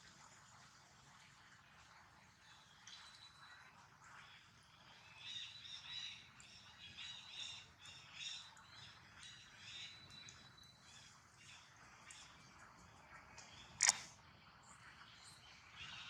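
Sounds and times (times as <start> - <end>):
faint bird chirping: 2.2 - 16.0.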